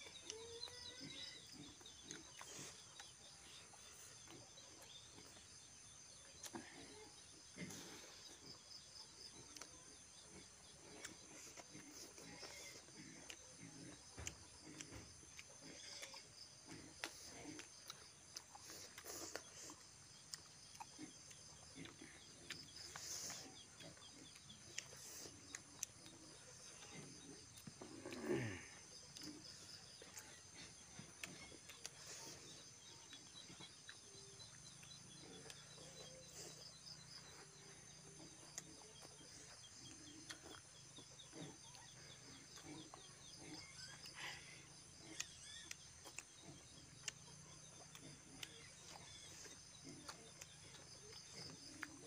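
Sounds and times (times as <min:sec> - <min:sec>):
insect trill: 0:00.0 - 0:52.0
people chewing and lip-smacking: 0:00.0 - 0:52.0.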